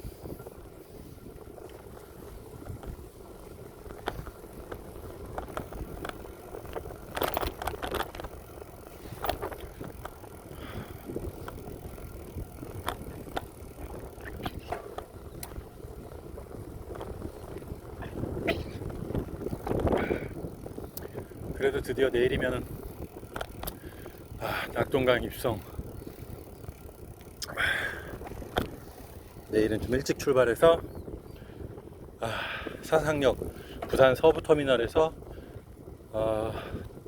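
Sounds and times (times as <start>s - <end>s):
bicycle clicks and rattles: 0.0s - 37.0s
bicycle tyres rumbling on pavement: 0.0s - 37.0s.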